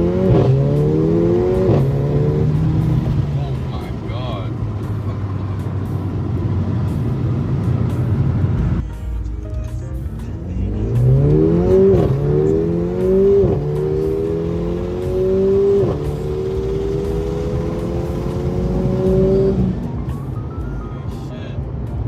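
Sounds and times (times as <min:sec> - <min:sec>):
car engine accelerating: 0:00.0 - 0:08.8, 0:10.2 - 0:21.2.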